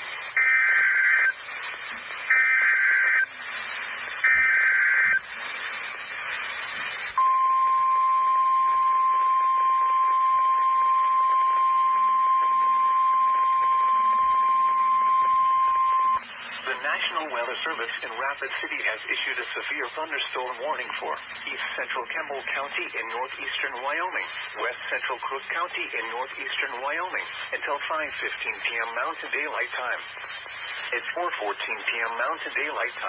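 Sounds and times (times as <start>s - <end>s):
radio hiss: 0.0s - 7.8s, 14.2s - 33.0s.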